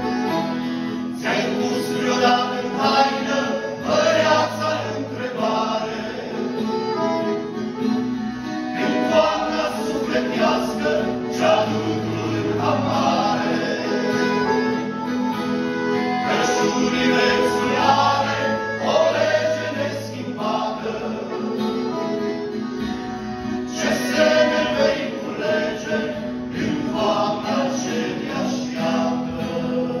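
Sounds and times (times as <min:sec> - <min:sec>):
accordion: 0:00.0 - 0:30.0
acoustic guitar: 0:00.0 - 0:30.0
male group singing in harmony: 0:01.1 - 0:07.1, 0:08.7 - 0:14.8, 0:16.0 - 0:22.1, 0:23.4 - 0:30.0.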